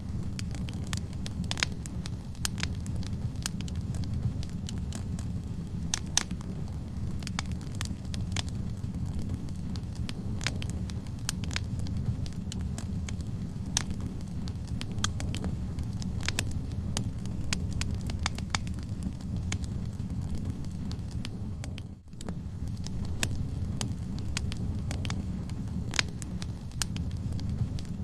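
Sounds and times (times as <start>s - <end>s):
low rumble of flames: 0.0s - 28.0s
wood fire crackling and popping: 0.0s - 28.0s.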